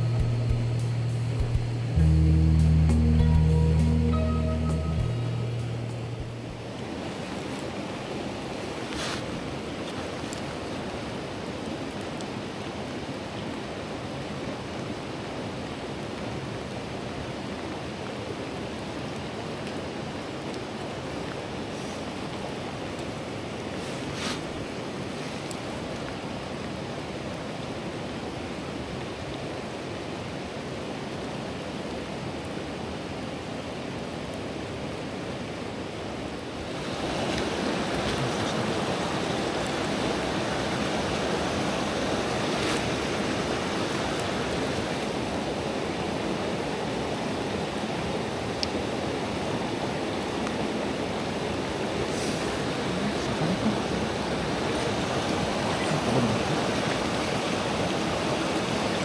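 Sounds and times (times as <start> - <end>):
stream rushing over rocks: 2.9 - 59.0.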